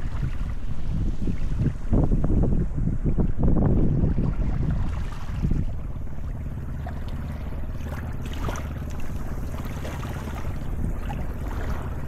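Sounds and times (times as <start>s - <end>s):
small waves washing on shore: 0.0s - 12.0s
wind buffeting microphone: 0.0s - 12.0s.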